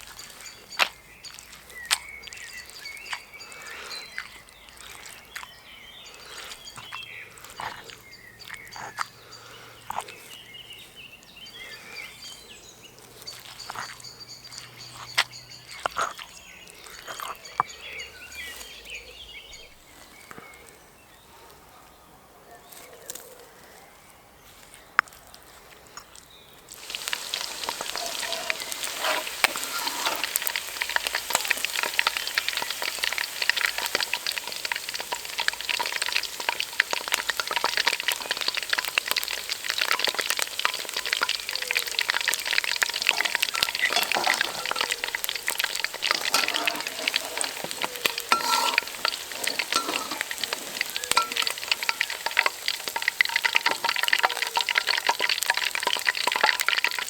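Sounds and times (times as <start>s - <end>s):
food deep-frying in oil: 0.0s - 20.7s, 26.2s - 57.0s.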